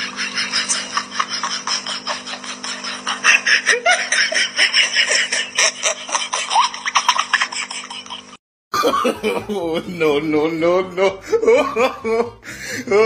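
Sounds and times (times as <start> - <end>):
person giggling: 0.0 - 13.0.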